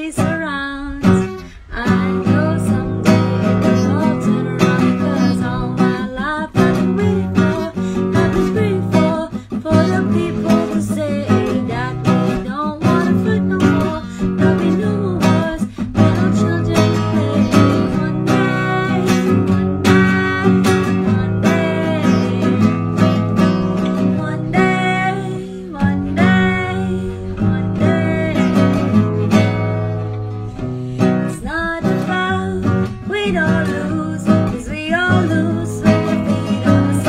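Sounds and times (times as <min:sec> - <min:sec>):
acoustic guitar: 0:00.0 - 0:37.0
person singing: 0:00.0 - 0:37.0.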